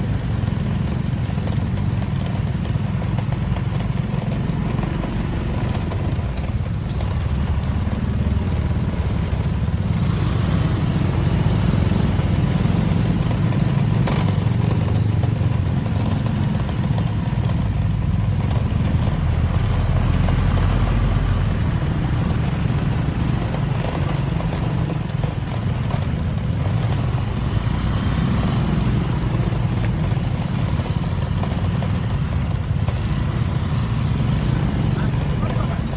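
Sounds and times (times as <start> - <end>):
vehicle engine rumbling on rough road: 0.0 - 35.9.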